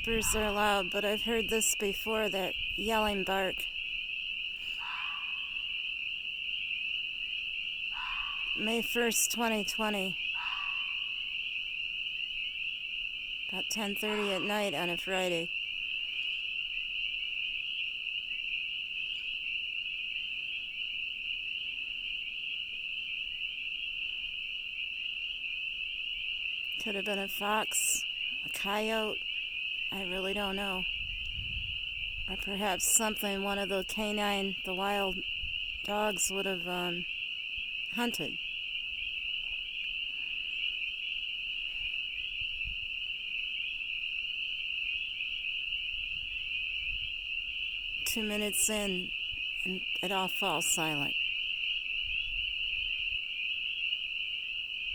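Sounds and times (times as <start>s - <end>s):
chorus of frogs peeping: 0.0s - 54.9s.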